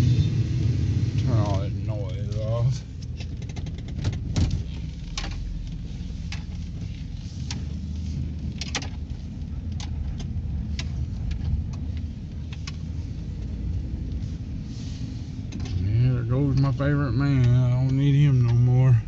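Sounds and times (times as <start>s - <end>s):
engine and drivetrain rumble: 0.0s - 19.0s.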